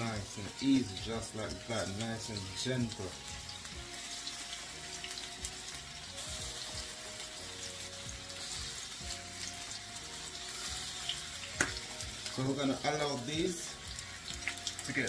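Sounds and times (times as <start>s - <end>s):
meatballs sizzling in oil: 0.0s - 15.0s.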